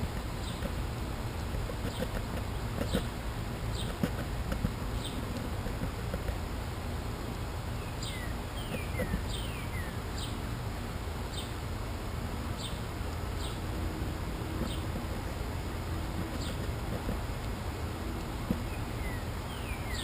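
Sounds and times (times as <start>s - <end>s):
birds chirping: 0.0s - 6.4s, 7.6s - 10.5s, 11.2s - 11.7s, 12.5s - 20.0s
steady low rumble: 0.0s - 20.0s.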